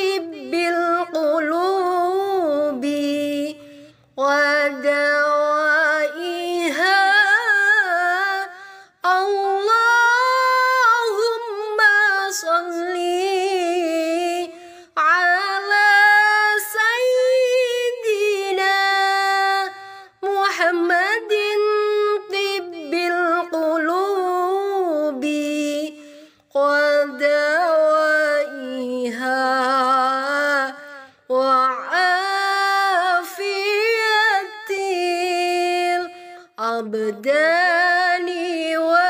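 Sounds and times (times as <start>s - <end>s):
woman singing unaccompanied: 0.0s - 39.0s.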